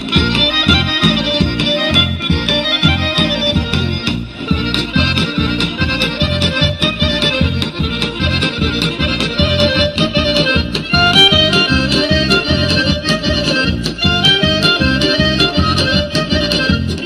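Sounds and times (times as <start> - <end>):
accordion folk dance music: 0.0 - 17.0.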